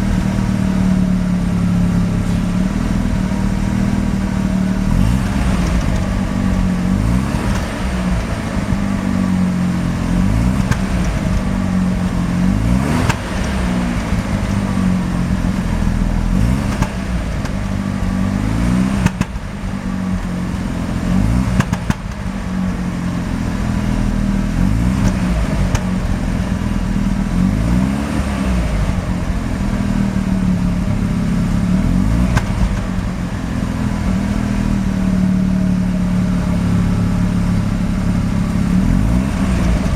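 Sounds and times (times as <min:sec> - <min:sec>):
engine pops: 0:00.0 - 0:39.9
rotary engine idling unevenly: 0:00.0 - 0:39.9.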